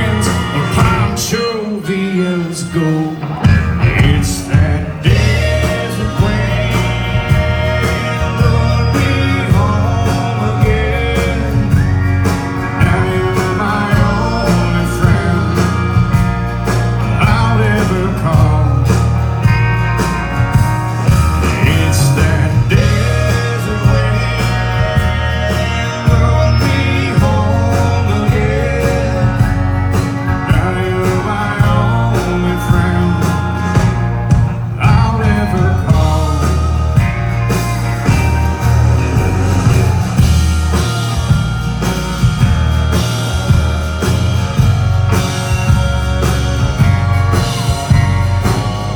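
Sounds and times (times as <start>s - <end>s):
country band playing: 0.0s - 48.9s.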